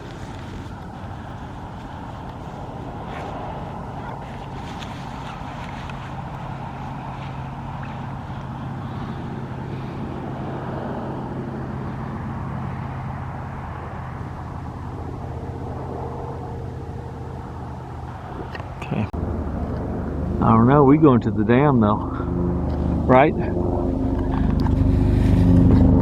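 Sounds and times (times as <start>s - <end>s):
road and wind noise: 0.0s - 26.0s
vehicle engine humming: 0.0s - 26.0s.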